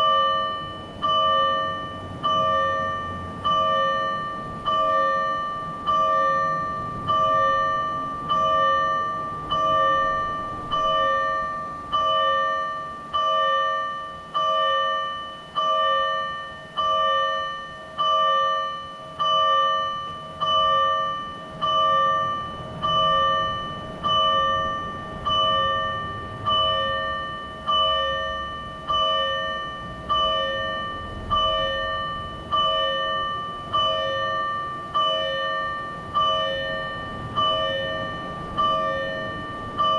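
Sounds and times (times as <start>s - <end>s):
electronic fire engine bell: 0.0s - 39.9s.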